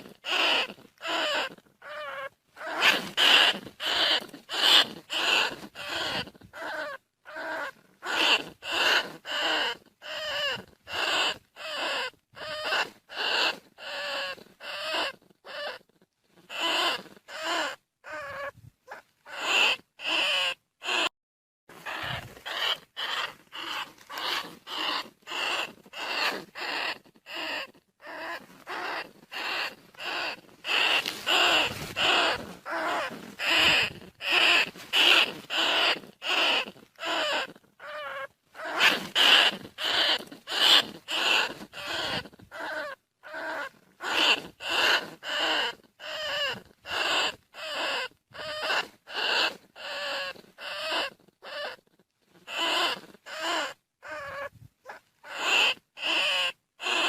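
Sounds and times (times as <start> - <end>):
rat squeaks: 0.0 - 21.1, 21.8 - 57.0.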